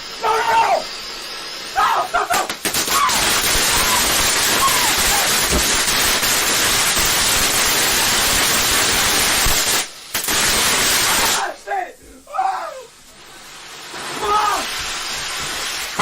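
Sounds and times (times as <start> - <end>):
firework hissing: 0.0 - 16.0.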